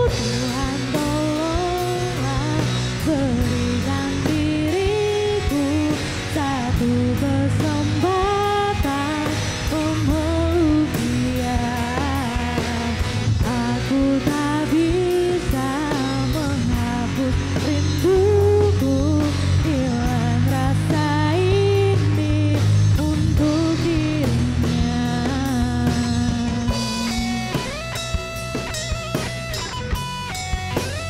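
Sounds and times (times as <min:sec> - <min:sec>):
woman singing lead vocal: 0:00.0 - 0:27.7
drum kit steady beat: 0:00.0 - 0:31.0
electric bass: 0:00.0 - 0:31.0
electric guitars: 0:00.0 - 0:31.0.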